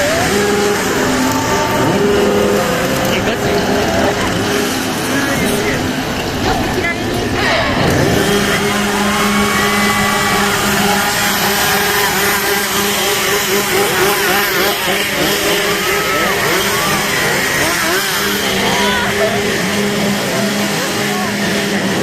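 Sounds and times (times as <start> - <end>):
chainsaw engine running: 0.0 - 22.0
crowd voices and shrieks: 0.0 - 22.0.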